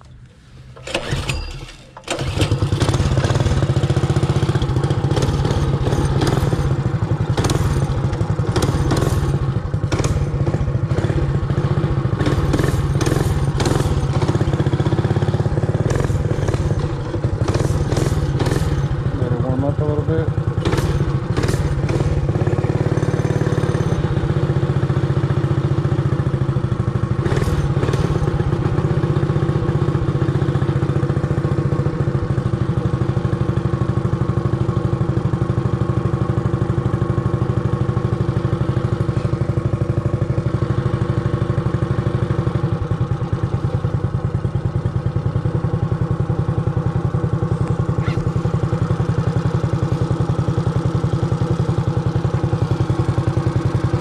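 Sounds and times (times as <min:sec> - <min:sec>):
mini bike engine idling: 0:00.8 - 0:54.0.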